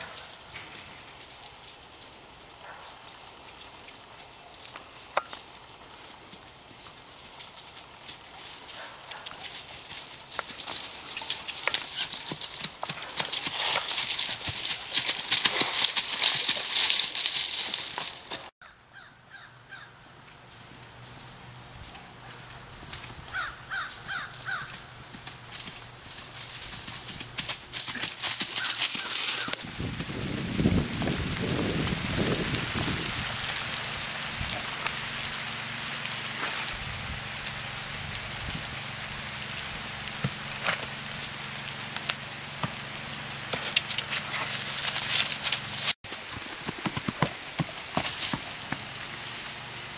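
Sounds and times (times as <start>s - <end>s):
dry leaves rustling and crunching: 0.0s - 18.5s, 19.4s - 49.9s
horse hoofbeats on grass: 0.0s - 18.5s, 20.0s - 49.9s.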